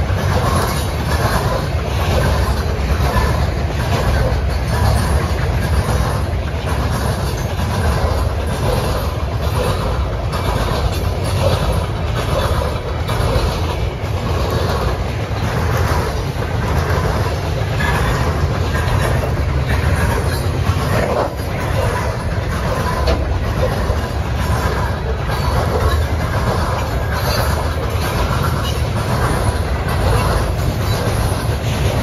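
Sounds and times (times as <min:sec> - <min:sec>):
freight train wheels rumbling: 0:00.0 - 0:32.0
wheels clacking over rail joints: 0:00.0 - 0:32.0.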